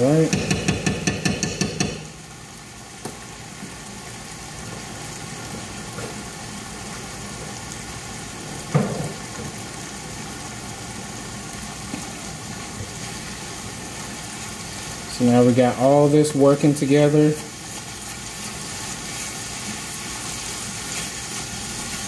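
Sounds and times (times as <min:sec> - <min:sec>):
sauce sizzling and bubbling: 0:00.0 - 0:22.0.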